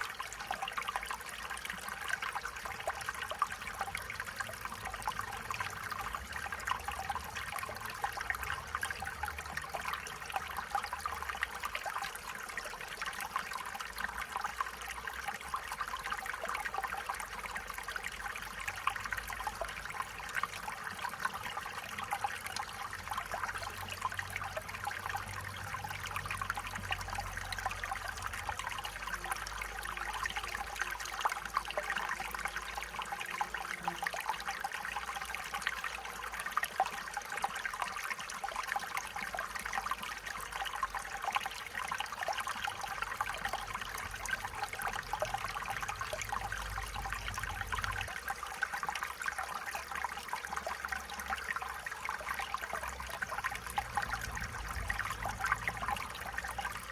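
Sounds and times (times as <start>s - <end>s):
stream babbling over rocks: 0.0s - 56.9s.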